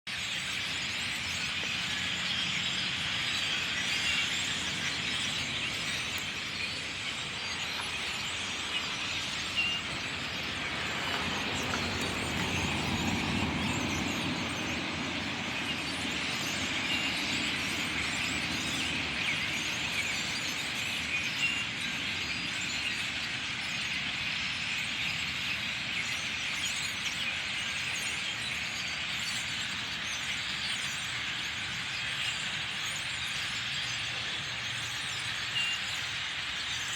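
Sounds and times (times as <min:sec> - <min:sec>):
flock of birds chattering: 0:00.1 - 0:36.9.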